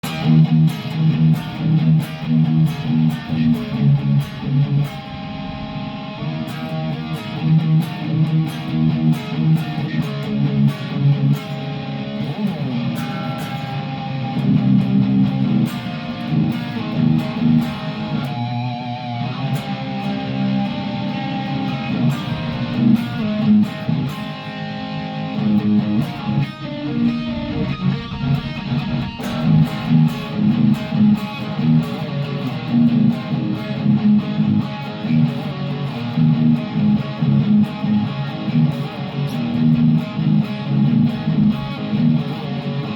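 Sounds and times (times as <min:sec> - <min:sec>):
electric guitar playing: 0:00.0 - 0:42.9.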